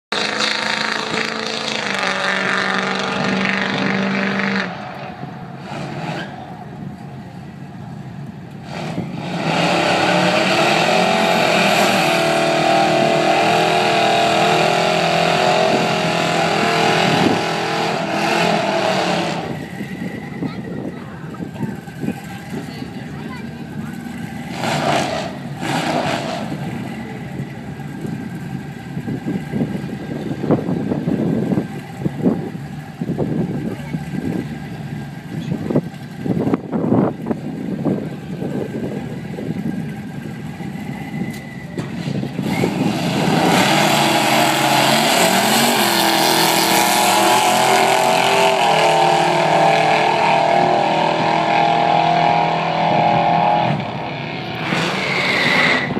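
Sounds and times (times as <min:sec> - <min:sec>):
engines at full throttle: 0:00.1 - 0:55.9
drag racing cars idling: 0:04.8 - 0:55.3.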